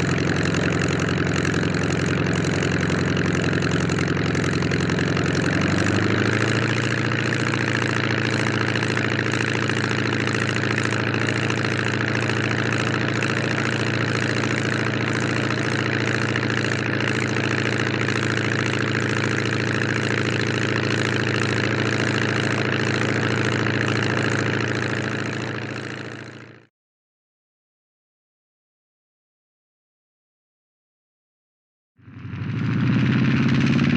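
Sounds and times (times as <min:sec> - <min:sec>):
propeller airplane engine idling: 0:00.0 - 0:26.7, 0:32.0 - 0:33.9.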